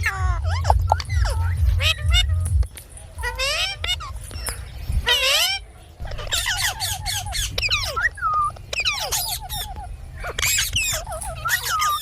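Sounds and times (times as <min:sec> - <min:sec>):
parakeet squawking and whistling: 0:00.0 - 0:12.0
steady low rumble: 0:00.0 - 0:12.0.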